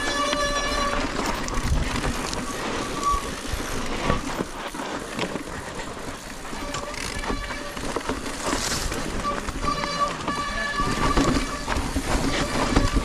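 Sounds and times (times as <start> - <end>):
disc brake squeal: 0.0 - 4.3, 6.5 - 13.0
bike rattling over bumps: 0.0 - 13.0
tyre and wind noise: 0.0 - 13.0.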